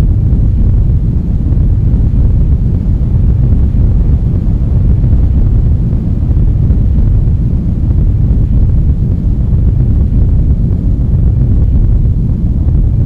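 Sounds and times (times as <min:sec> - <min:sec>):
loud low rumble: 0:00.0 - 0:13.0.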